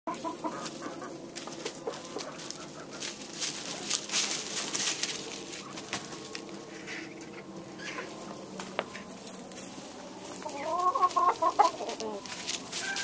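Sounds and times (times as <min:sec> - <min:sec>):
chickens clucking softly: 0:00.1 - 0:04.0, 0:05.5 - 0:13.0
footsteps crunching dry leaves: 0:00.1 - 0:13.0.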